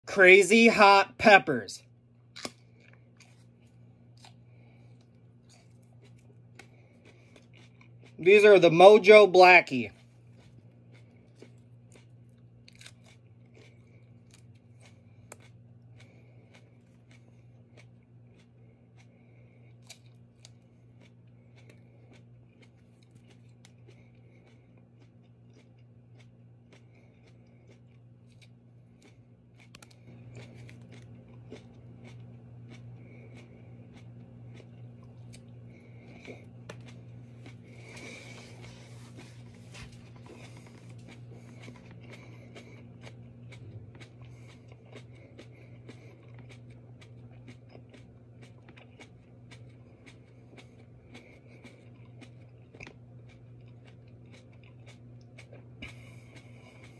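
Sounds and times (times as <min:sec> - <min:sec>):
steady low hum: 0:00.0 - 0:56.9
man chewing crunchy food: 0:02.2 - 0:56.9.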